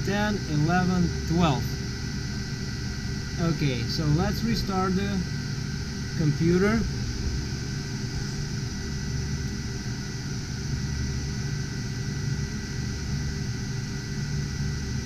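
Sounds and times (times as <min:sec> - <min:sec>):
cooling fans droning: 0:00.0 - 0:15.0
faint high whine: 0:00.0 - 0:15.0
low hum: 0:00.0 - 0:15.0.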